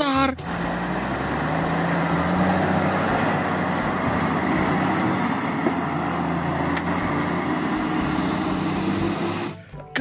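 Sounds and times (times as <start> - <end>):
dump truck diesel engine running: 0.0 - 10.0.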